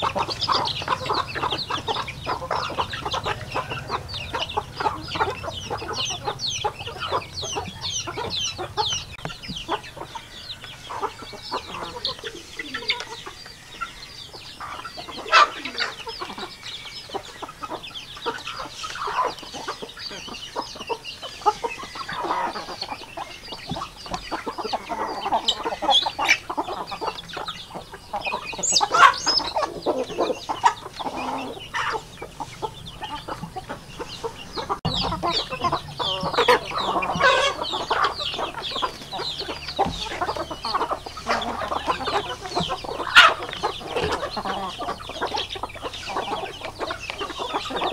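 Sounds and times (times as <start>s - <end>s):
chickens clucking and cheeping: 0.0s - 47.9s.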